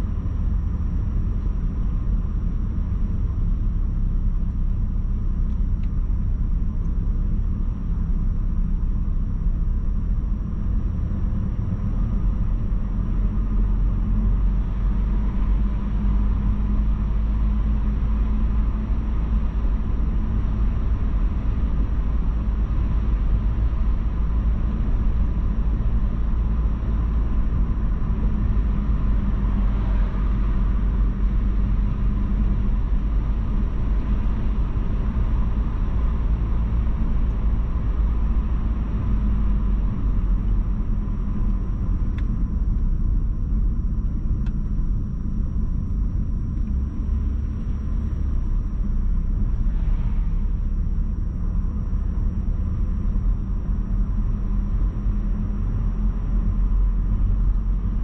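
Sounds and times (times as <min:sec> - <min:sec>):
road noise: 0:00.0 - 0:07.8, 0:10.2 - 0:58.0
car engine rumble: 0:00.0 - 0:58.0.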